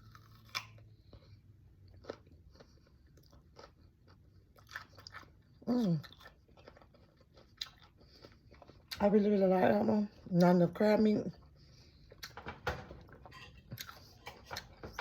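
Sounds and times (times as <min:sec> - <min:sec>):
chewing with wet crunches: 0:00.0 - 0:12.5, 0:13.2 - 0:15.0.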